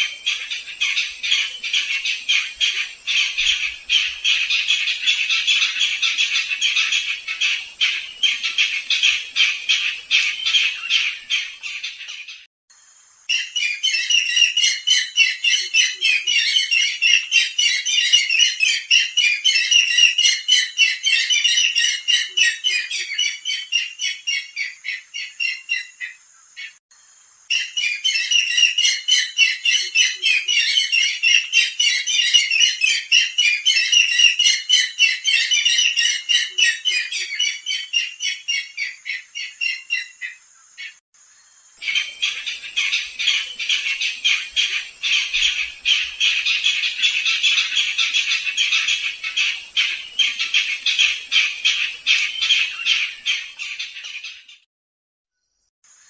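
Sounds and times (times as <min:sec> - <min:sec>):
birds calling rapidly: 0:00.0 - 0:12.5, 0:13.3 - 0:26.8, 0:27.5 - 0:41.0, 0:41.8 - 0:54.7.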